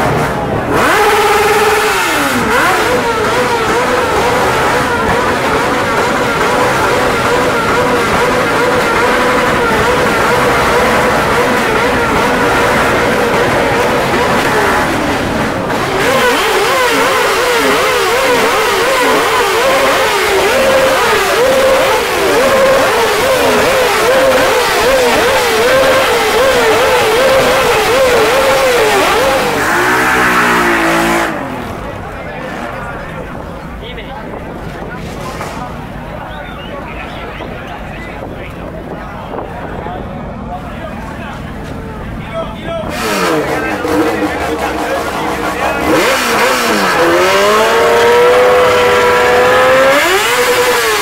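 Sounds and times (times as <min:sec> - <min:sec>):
motorcycle engine revving: 0:00.0 - 0:33.6, 0:38.4 - 0:51.0.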